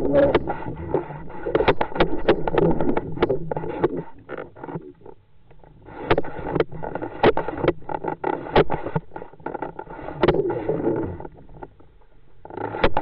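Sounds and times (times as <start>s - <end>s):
muffled underwater rushing water: 0.0s - 12.6s.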